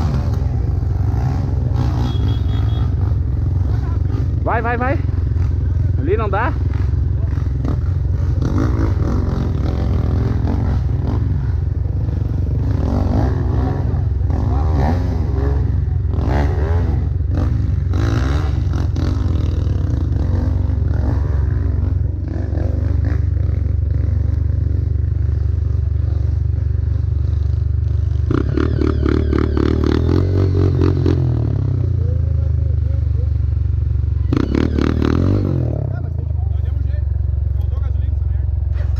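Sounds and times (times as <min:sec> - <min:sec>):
dirt bike engine revving: 0:00.0 - 0:32.4, 0:34.1 - 0:37.6.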